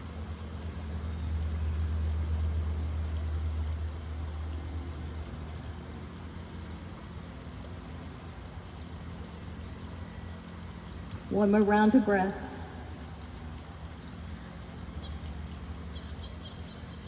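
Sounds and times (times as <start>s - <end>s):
distant vehicle engine rumble: 0.0s - 17.0s.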